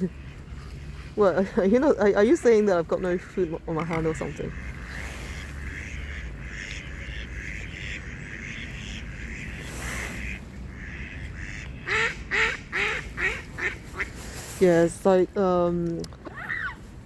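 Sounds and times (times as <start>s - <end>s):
ducks quacking: 0.0s - 14.2s.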